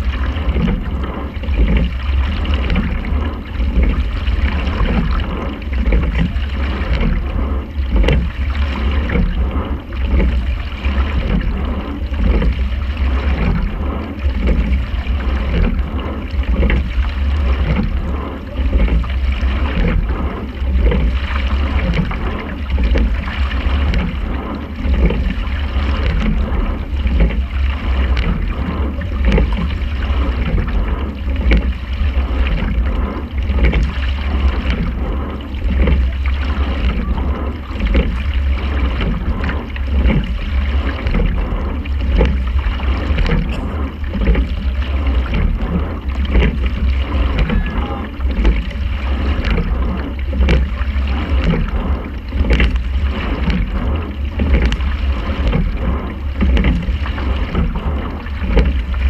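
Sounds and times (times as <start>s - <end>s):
heavy low rumble: 0.0s - 59.0s
water rushing along a hull: 0.0s - 59.0s.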